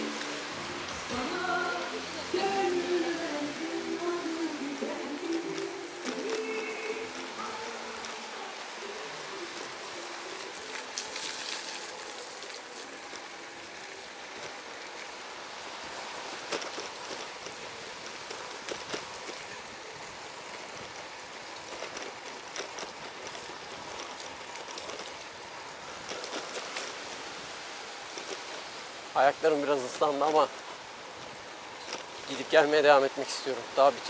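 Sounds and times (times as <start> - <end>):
water hissing on wet surfaces: 0.0 - 34.0.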